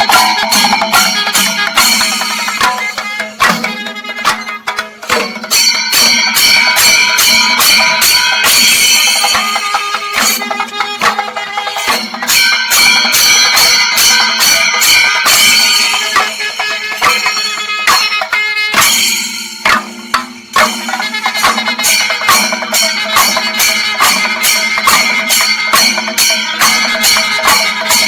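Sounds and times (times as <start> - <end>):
drums beaten fast: 0.0 - 28.0
hand cymbals clashing: 0.0 - 28.0.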